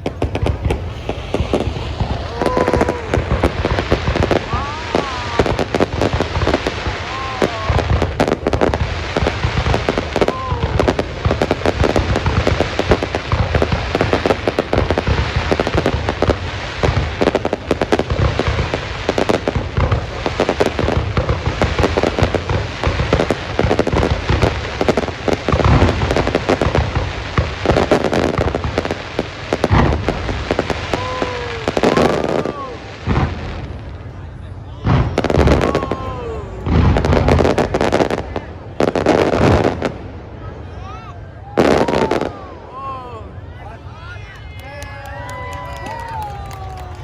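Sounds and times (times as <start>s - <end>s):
fireworks bangs and crackling: 0.0s - 43.0s, 44.2s - 47.0s.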